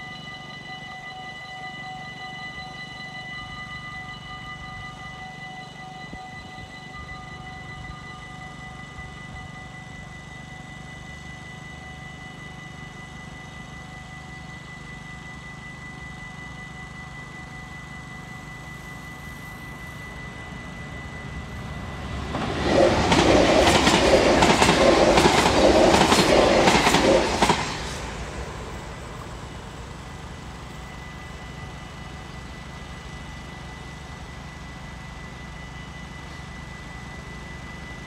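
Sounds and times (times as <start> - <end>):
train passing: 0.0 - 38.0.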